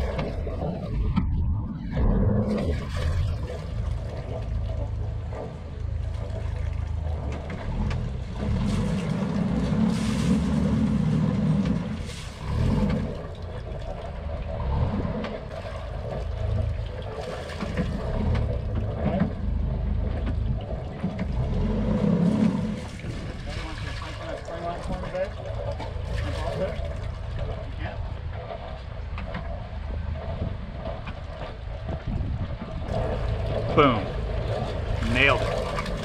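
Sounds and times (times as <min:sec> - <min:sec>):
boat engine rumbling: 0:00.0 - 0:36.0.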